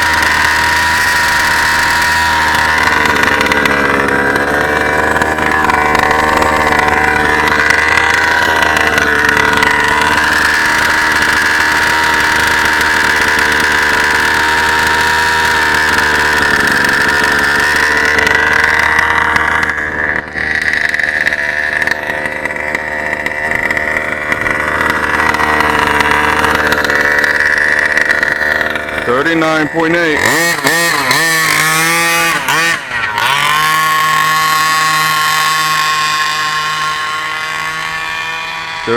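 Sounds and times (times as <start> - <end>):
two-stroke engine at high revs: 0.0 - 38.9.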